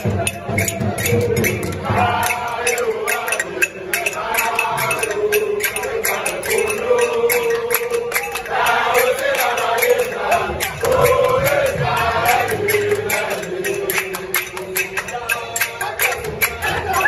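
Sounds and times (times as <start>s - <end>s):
crowd of men chanting: 0.0s - 17.0s
hands clapping along: 0.0s - 17.0s.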